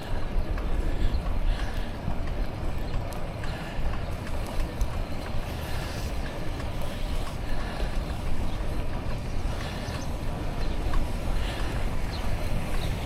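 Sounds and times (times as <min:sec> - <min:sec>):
faint ticks: 0:00.0 - 0:13.0
wind buffeting microphone: 0:00.0 - 0:13.0.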